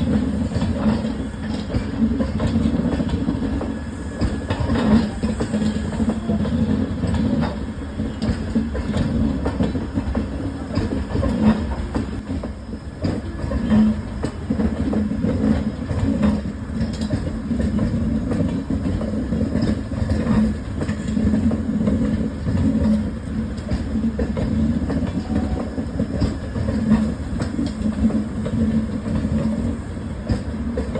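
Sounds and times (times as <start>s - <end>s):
train wheels clacking on rails: 0.0s - 30.9s.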